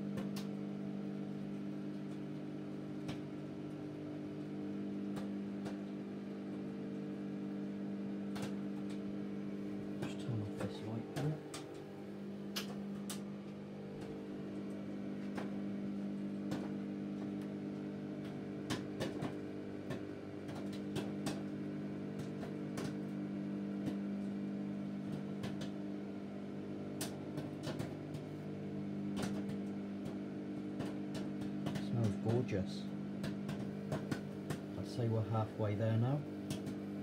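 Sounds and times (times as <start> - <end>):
microwave oven humming: 0.0 - 37.0
popcorn popping: 0.0 - 37.0.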